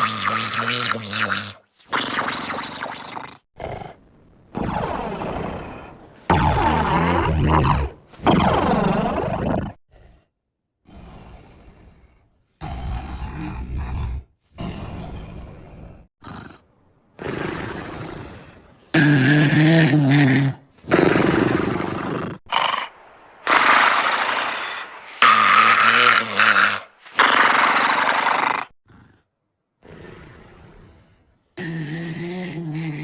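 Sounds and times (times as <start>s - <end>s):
cartoon dog snoring: 0.0s - 4.0s, 4.6s - 22.9s, 25.2s - 33.0s.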